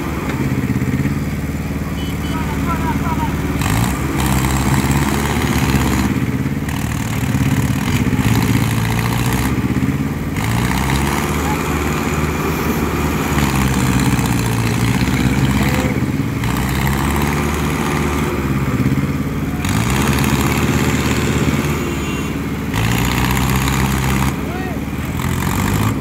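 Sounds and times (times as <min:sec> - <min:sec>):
tractor engines revving under load: 0:00.0 - 0:26.0.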